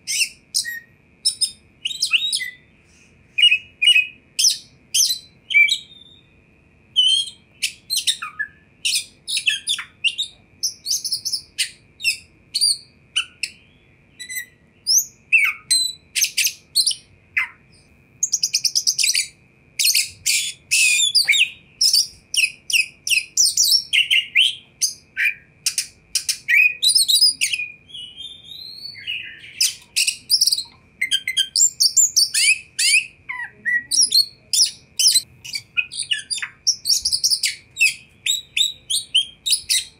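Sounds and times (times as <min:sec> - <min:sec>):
bird singing varied whistled song: 0:00.0 - 0:39.9.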